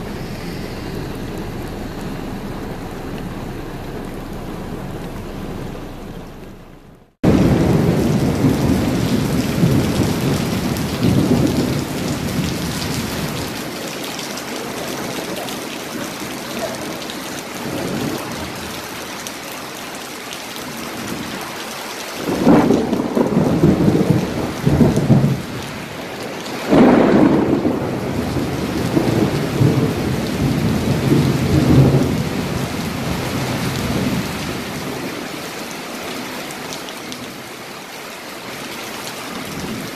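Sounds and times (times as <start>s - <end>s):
thunder rumbling: 0.0s - 19.8s, 20.6s - 35.4s
heavy rain: 0.0s - 39.9s.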